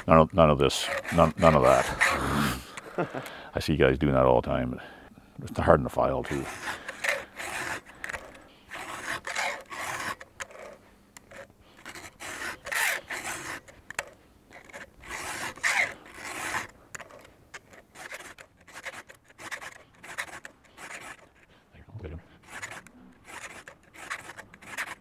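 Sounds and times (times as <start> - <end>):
file rasping on chainsaw chain: 0.0 - 3.2, 6.0 - 21.6, 22.2 - 25.0.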